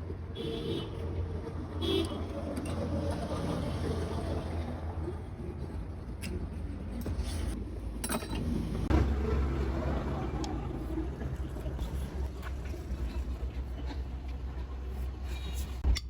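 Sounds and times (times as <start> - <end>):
traffic rumble: 0.0 - 15.9.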